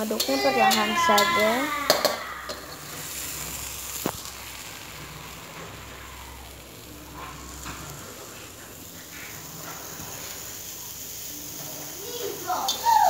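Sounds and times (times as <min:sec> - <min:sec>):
spice paste sizzling in oil: 0:00.0 - 0:13.0.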